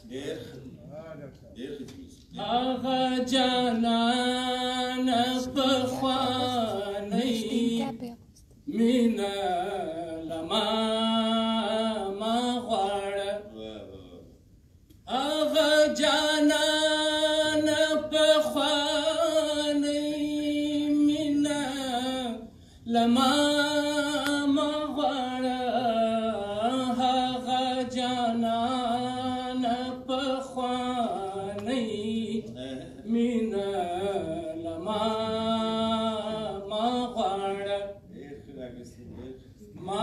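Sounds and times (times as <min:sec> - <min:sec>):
man singing unaccompanied: 0:02.4 - 0:07.9, 0:08.7 - 0:14.1, 0:15.1 - 0:38.0.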